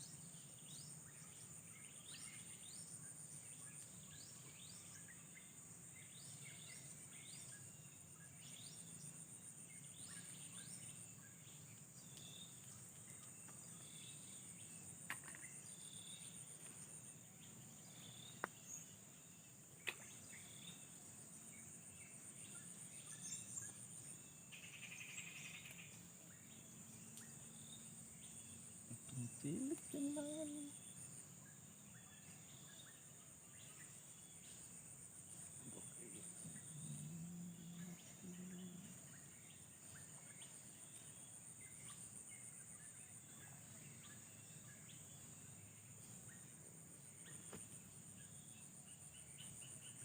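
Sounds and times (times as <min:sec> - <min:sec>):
insects chirring: 0:00.0 - 0:50.0.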